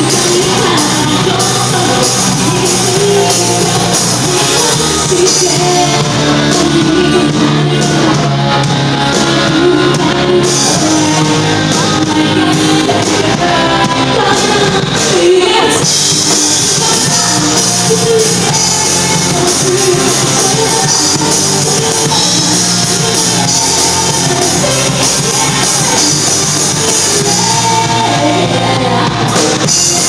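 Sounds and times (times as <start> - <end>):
live rock band playing: 0.0 - 30.0
person singing: 0.0 - 30.0.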